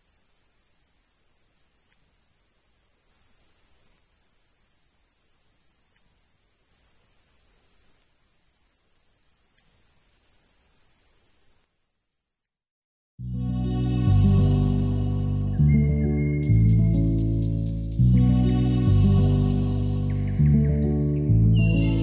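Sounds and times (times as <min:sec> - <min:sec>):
crickets chirping: 0:00.0 - 0:12.6, 0:13.7 - 0:22.0.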